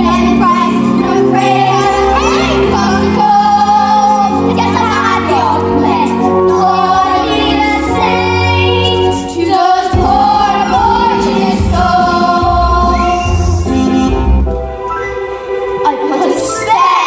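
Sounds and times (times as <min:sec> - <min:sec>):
voices singing with backing music: 0:00.0 - 0:17.0.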